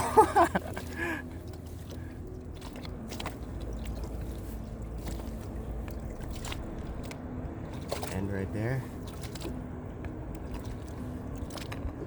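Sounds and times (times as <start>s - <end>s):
wind and water rumble on microphone: 0.0s - 12.0s.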